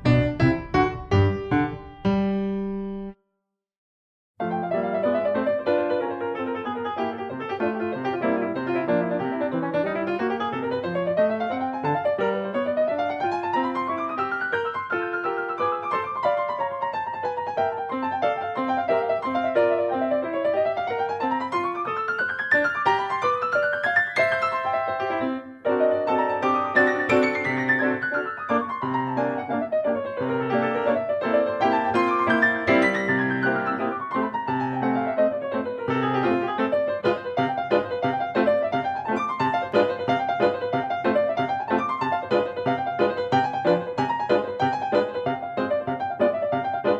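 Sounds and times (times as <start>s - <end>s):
piano music: 0.0s - 3.2s, 4.4s - 46.9s.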